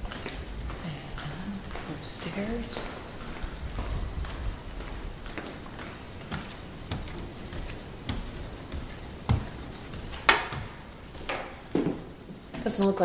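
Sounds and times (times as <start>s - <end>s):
footsteps on plywood floor: 0.0s - 12.9s
footsteps on wooden stairs: 0.0s - 13.0s.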